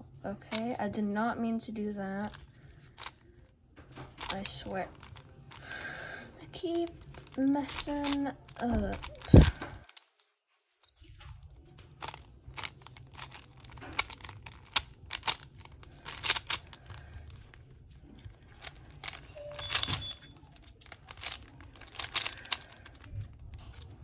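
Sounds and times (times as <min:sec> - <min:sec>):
puzzle cube clacking: 0:02.2 - 0:03.3, 0:04.1 - 0:10.1, 0:10.9 - 0:24.0.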